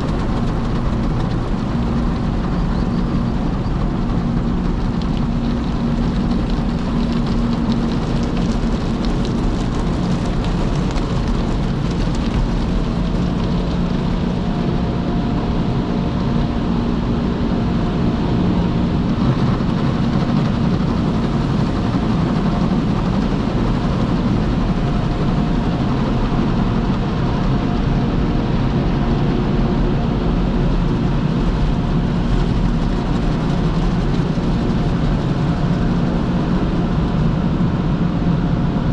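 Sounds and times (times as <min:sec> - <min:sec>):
motor hum: 0:00.0 - 0:38.1
car wash machinery running: 0:00.0 - 0:38.9.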